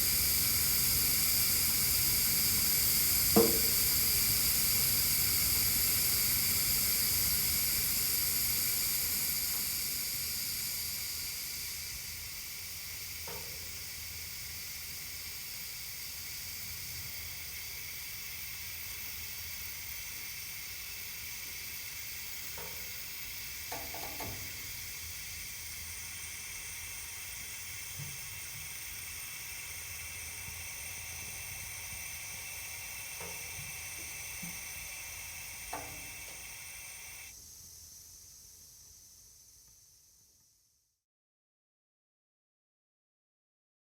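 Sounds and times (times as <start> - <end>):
gas hissing under pressure: 0.0 - 39.8.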